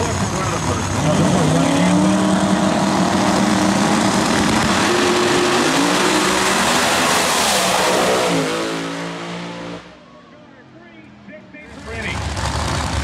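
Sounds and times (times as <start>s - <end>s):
drag car engines at full throttle: 0.0s - 13.0s.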